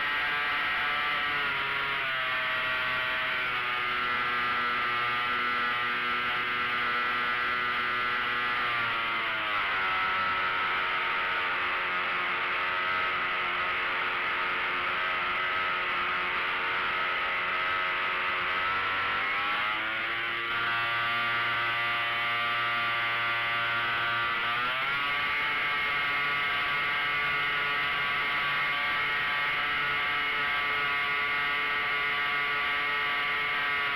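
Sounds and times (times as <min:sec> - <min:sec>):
model airplane engine and propeller: 0:00.0 - 0:33.9.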